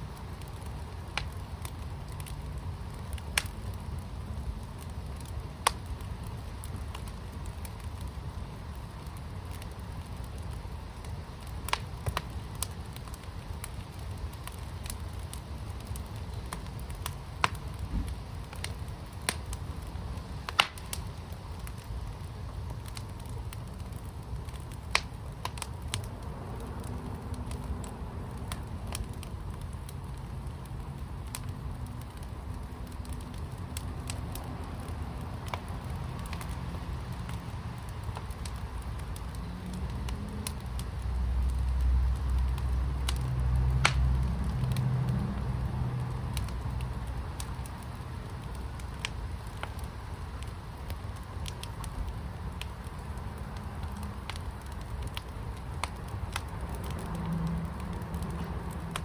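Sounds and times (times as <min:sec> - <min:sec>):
wood fire crackling: 0:00.0 - 0:59.0
sharp fire pops: 0:00.1 - 0:59.0.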